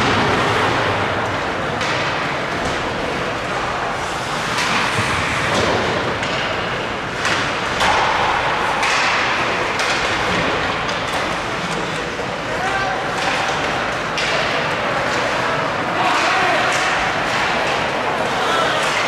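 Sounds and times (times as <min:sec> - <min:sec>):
hubbub of spectators: 0:00.0 - 0:19.0.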